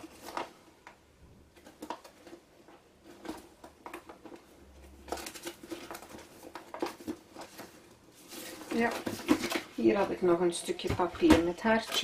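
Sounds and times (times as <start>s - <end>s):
paper scraps rustling: 1.6s - 12.0s.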